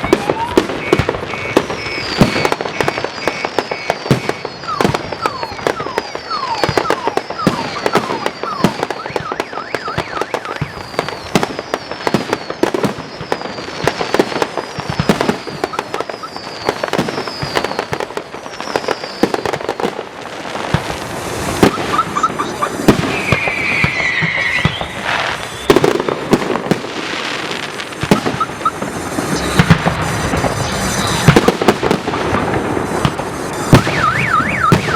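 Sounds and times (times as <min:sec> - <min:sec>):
firework bangs and crackling: 0:00.0 - 0:34.9
firework falling whistles: 0:00.0 - 0:34.9.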